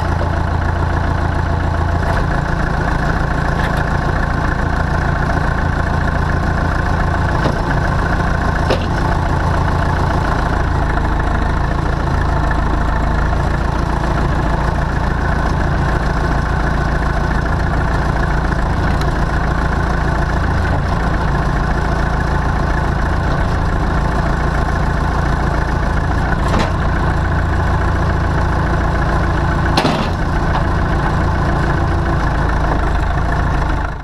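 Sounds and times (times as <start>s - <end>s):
tractor engine idling: 0.0s - 34.0s.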